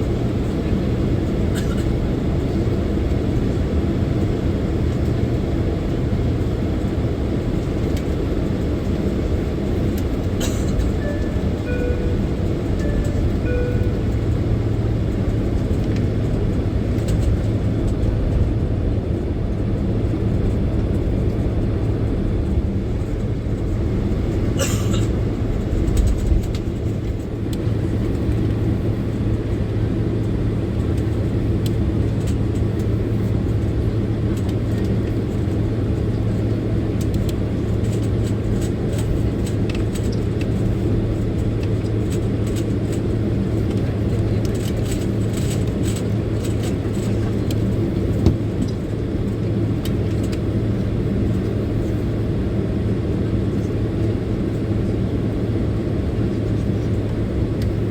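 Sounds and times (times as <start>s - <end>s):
aircraft engine hum: 0.0s - 57.9s.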